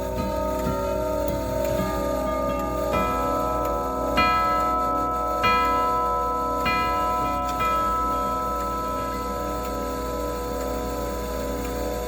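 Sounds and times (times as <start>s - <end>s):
clock ticking: 0.0s - 12.0s
tubular clock chimes ringing: 0.0s - 12.0s.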